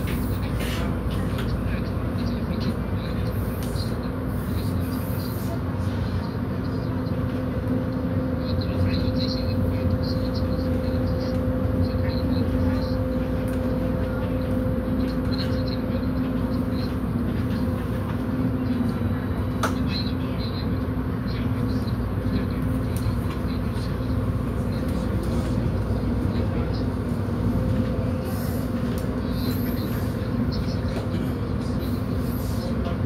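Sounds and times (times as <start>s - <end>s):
constant low drone: 0.0s - 33.0s
train rumble: 0.0s - 33.0s.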